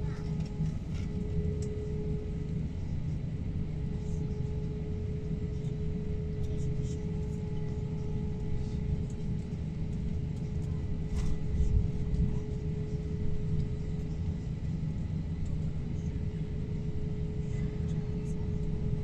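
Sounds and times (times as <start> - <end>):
engine and airflow rumble: 0.0 - 19.0
mid-pitched hum: 0.0 - 19.0.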